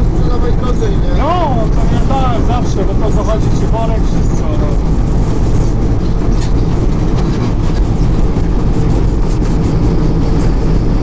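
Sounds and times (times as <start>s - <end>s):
combine harvester droning: 0.0s - 11.0s.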